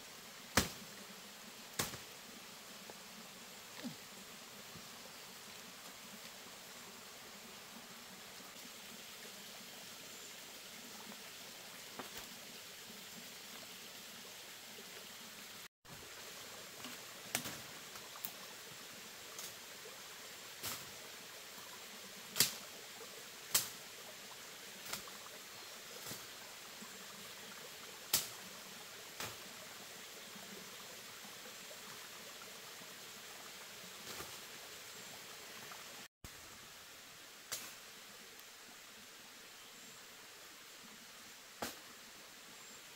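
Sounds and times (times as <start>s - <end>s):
faint steady hiss: 0.0s - 42.9s.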